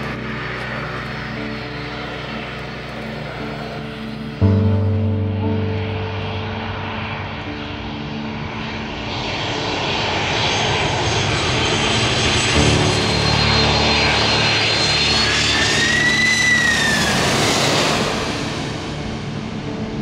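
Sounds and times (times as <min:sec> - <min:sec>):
high whining engine tones: 0:00.0 - 0:20.0
jet airliner passing overhead: 0:00.0 - 0:20.0.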